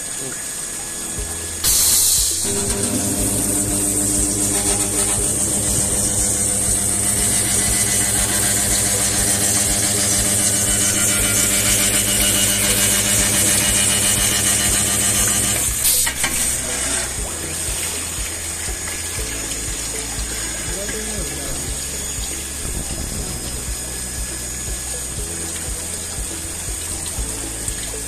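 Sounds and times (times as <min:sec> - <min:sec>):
running cooling water: 0:00.0 - 0:28.0
welder electrical hum: 0:00.0 - 0:28.0
weld sizzling: 0:00.6 - 0:28.0.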